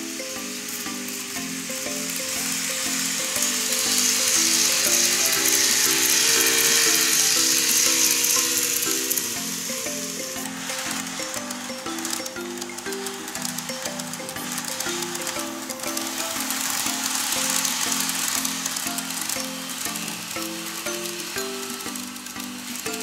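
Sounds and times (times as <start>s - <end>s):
light background music: 0.0s - 23.0s
model train running on track: 0.0s - 23.0s.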